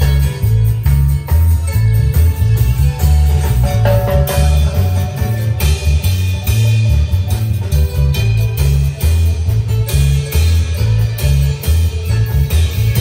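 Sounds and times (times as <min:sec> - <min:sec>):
drum kit: 0:00.0 - 0:13.0
marimba band playing: 0:00.0 - 0:13.0
pulsing bass line: 0:00.0 - 0:13.0.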